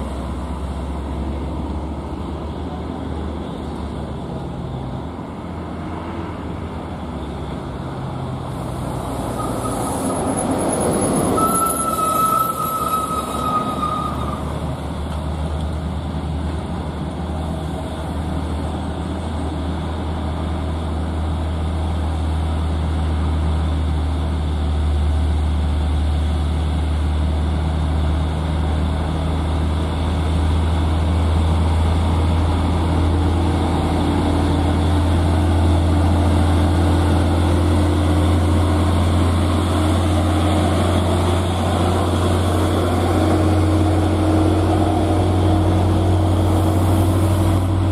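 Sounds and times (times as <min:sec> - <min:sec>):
diesel truck engines droning: 0:00.0 - 0:47.9.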